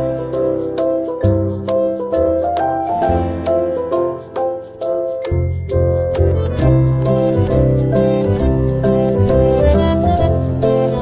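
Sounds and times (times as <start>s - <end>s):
piano music with bass and beat: 0.0s - 11.0s.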